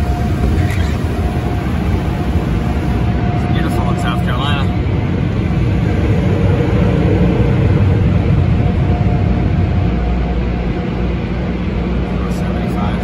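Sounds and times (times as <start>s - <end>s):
car wash air dryers blowing: 0.0s - 13.0s
low rumble: 0.0s - 13.0s.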